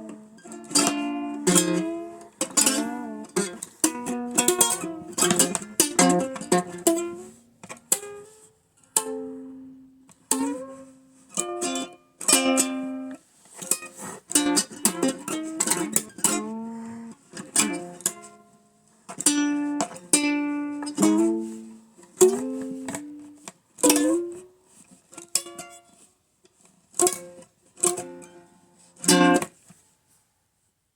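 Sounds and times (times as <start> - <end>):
ukulele picking and strumming: 0.0 - 26.1, 27.0 - 29.6.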